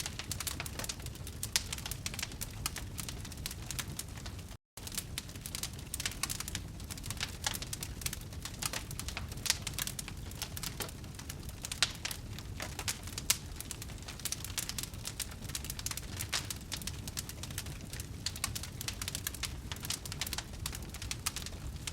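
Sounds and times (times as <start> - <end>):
campfire crackling: 0.0 - 21.9.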